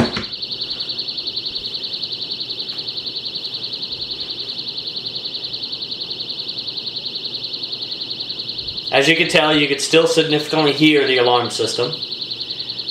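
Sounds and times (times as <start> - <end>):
high-pitched electronic alarm beeping: 0.0 - 12.9.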